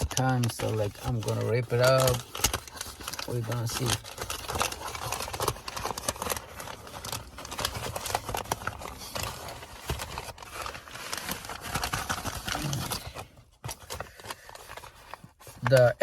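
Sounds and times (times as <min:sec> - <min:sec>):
packaging rustling and crackling: 0:00.0 - 0:16.0.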